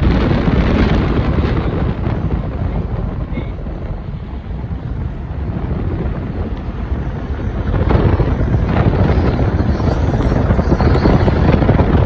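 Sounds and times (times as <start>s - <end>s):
car rumbling inside: 0.0s - 12.0s
wind buffeting microphone: 0.0s - 12.0s.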